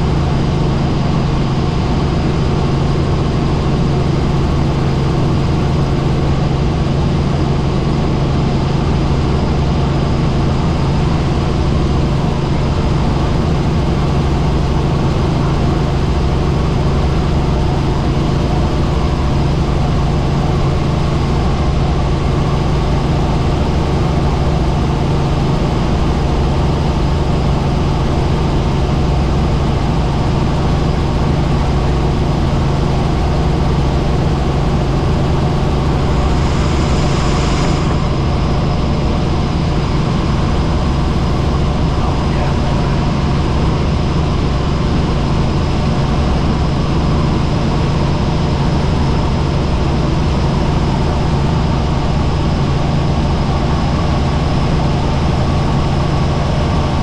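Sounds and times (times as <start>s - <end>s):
helicopter rotor and engine: 0.0s - 57.0s.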